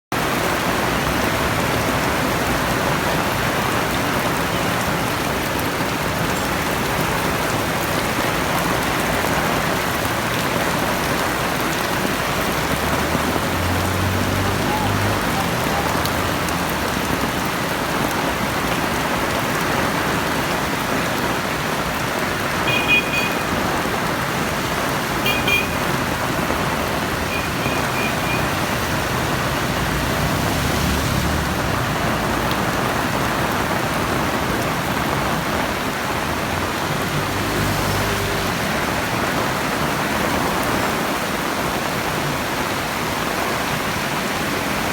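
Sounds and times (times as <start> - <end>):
heavy rain: 0.1 - 44.9.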